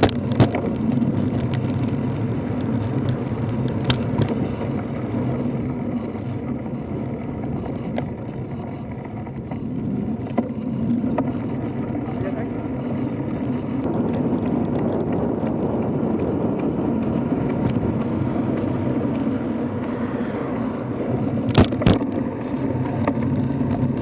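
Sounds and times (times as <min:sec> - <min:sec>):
bike tyres rumbling on asphalt: 0:00.0 - 0:24.0
wind on microphone: 0:00.0 - 0:24.0.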